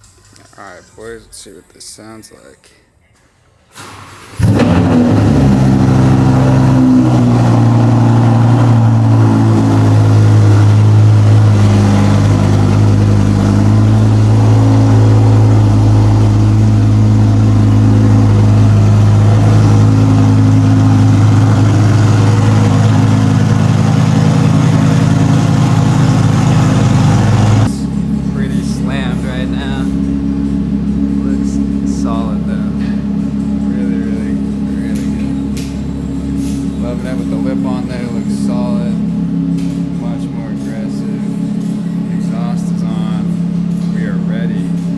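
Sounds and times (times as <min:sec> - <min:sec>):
car engine starting and idling: 0:03.6 - 0:44.9.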